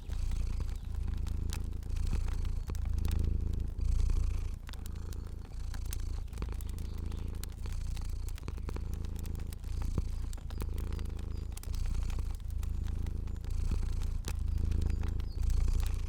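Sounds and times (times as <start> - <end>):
cat purring: 0.0 - 16.0
fire crackling: 0.0 - 16.0.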